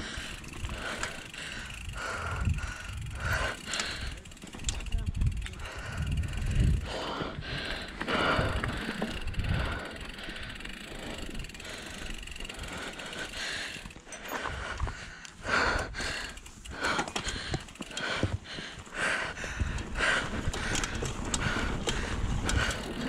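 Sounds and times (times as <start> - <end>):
mountain bike rattling: 0.0 - 23.0.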